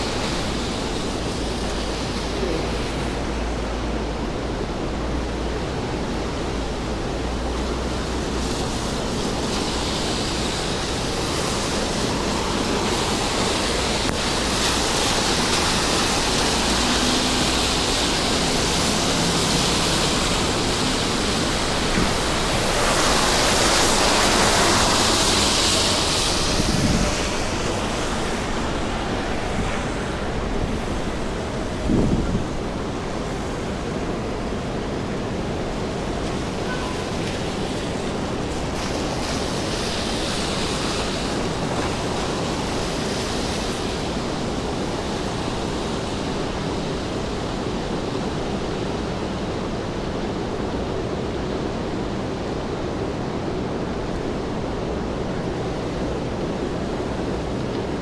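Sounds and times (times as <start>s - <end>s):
rain on wet street: 0.0s - 58.0s.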